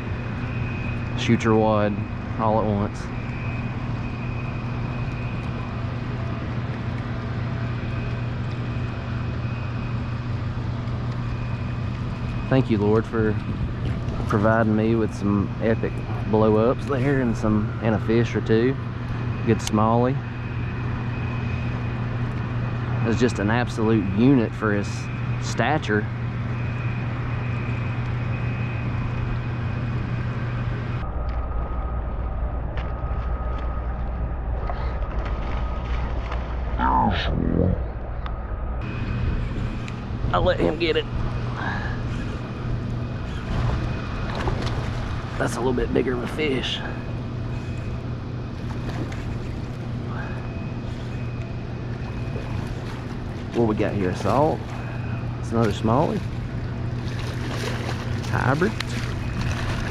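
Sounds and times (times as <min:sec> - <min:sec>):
high whine: 0:00.0 - 0:59.9
low motor hum: 0:00.0 - 0:59.9.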